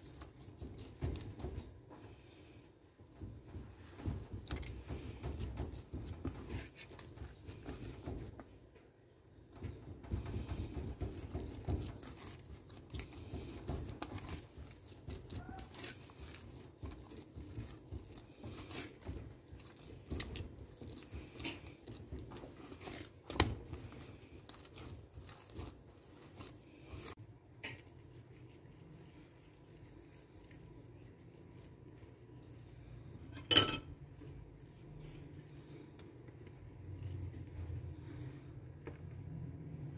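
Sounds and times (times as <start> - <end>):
hands squishing wet dough: 0.0 - 33.3, 33.9 - 39.9.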